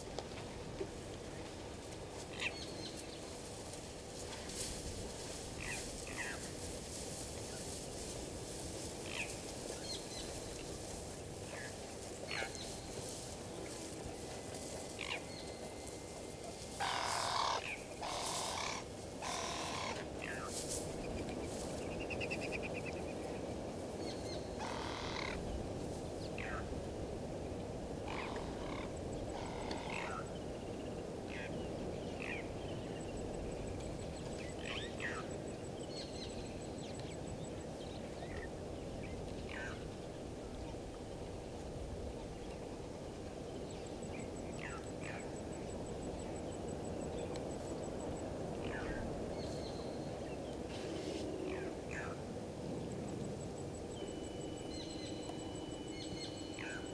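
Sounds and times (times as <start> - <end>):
low background hiss: 0.0 - 56.9.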